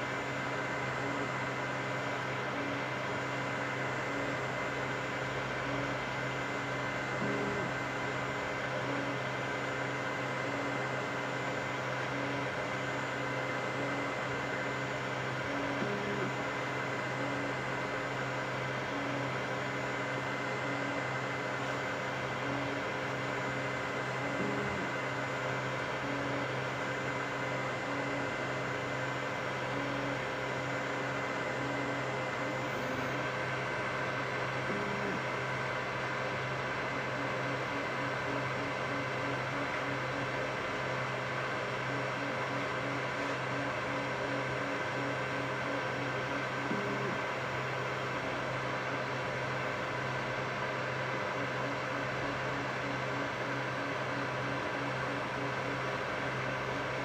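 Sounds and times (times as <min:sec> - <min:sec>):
stepper motor tones: 0:00.0 - 0:49.8
fan whir and hum: 0:00.0 - 0:57.0.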